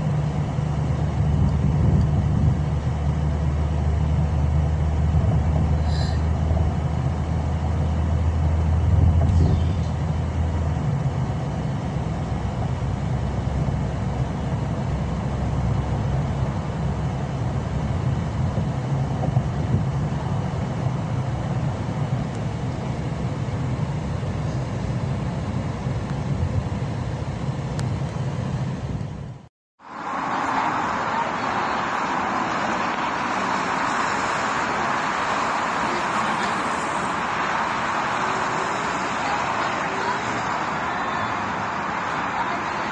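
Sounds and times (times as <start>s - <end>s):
road and engine rumble inside car: 0.0s - 42.9s.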